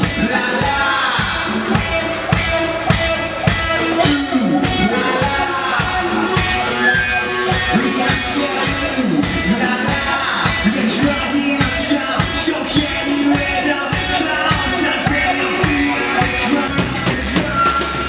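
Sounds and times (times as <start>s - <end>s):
person singing: 0.0s - 18.0s
rock band playing: 0.0s - 18.0s.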